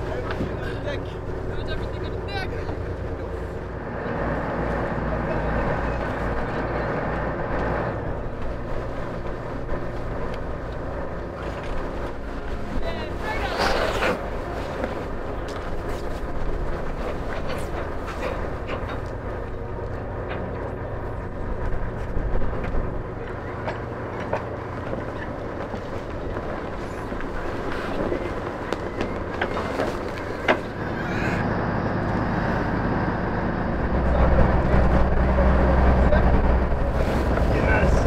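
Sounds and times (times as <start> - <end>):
ship engine humming: 0.0 - 38.0.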